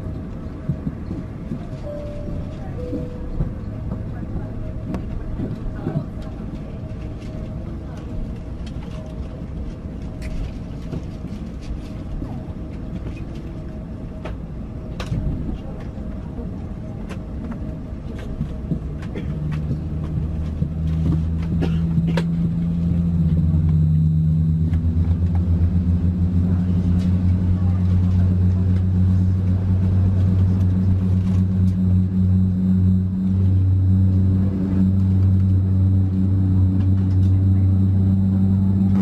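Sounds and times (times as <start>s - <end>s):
low cabin rumble: 0.0s - 39.0s
low droning hum: 0.0s - 39.0s.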